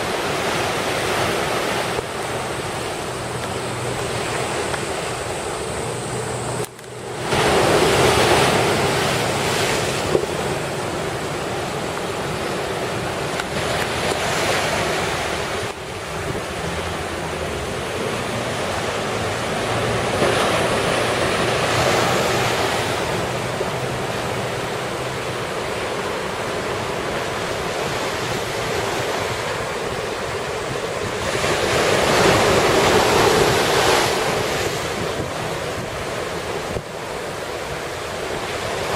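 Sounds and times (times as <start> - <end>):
rough surf: 0.0 - 38.9
wind buffeting microphone: 0.0 - 38.9.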